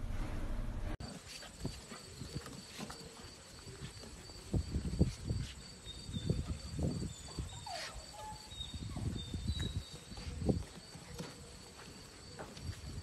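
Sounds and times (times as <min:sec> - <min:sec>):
paws scrambling on wooden boards: 0:01.0 - 0:13.0.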